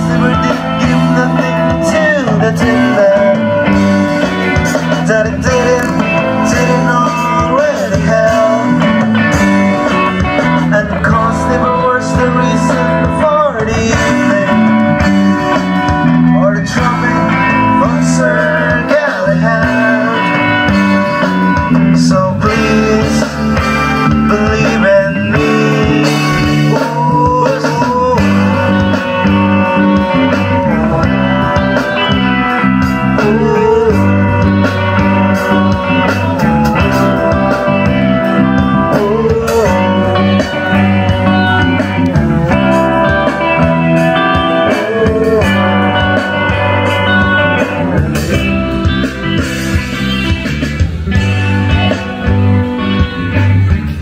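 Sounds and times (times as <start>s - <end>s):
person singing: 0.0s - 49.1s
electric guitars: 0.0s - 54.0s
low band accompaniment: 0.0s - 54.0s.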